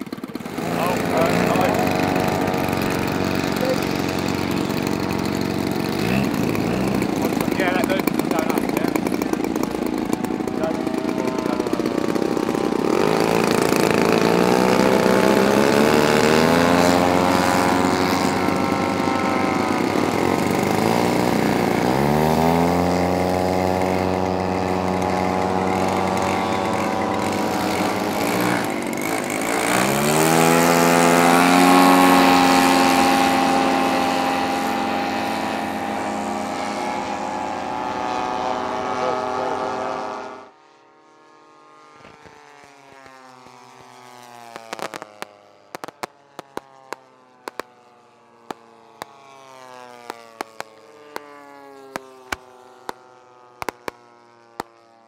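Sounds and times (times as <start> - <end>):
model airplane engine: 0.0 - 55.0.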